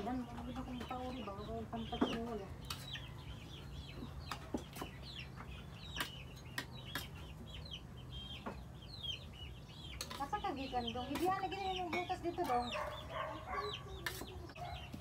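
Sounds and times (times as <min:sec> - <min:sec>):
chickens clucking and peeping: 0:00.0 - 0:15.0.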